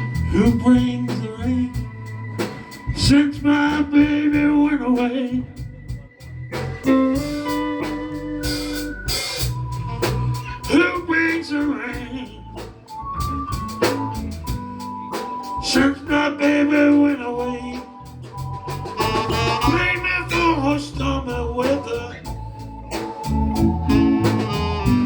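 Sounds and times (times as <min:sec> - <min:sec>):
band playing slow blues: 0:00.0 - 0:25.0
drums: 0:00.0 - 0:25.0
sustained keyboard chords: 0:00.0 - 0:25.0.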